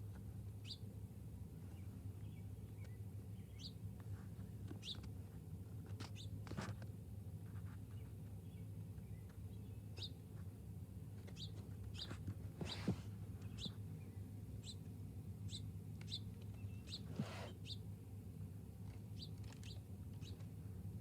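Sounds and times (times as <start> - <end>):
songbirds chirping: 0.2 - 21.0.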